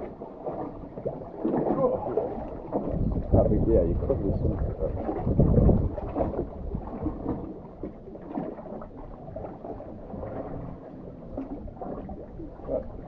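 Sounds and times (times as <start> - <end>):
wind buffeting microphone: 1.5 - 13.0.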